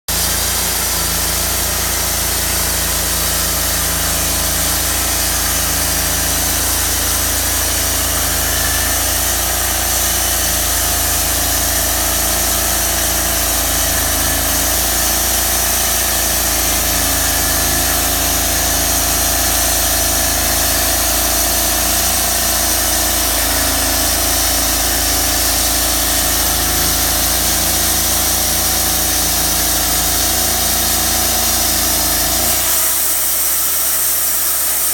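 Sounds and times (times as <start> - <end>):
saw blade cutting log: 0.1 - 34.9
sawmill engine running: 0.1 - 34.9.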